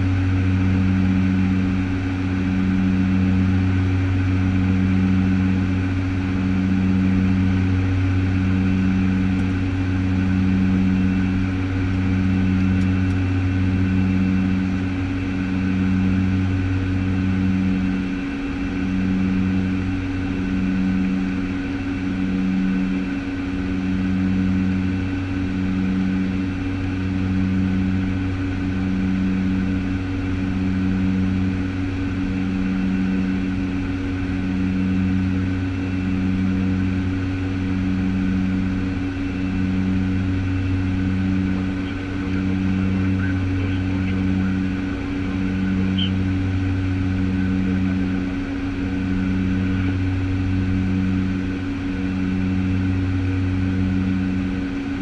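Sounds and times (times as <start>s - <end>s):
turboprop propeller drone: 0.0s - 55.0s.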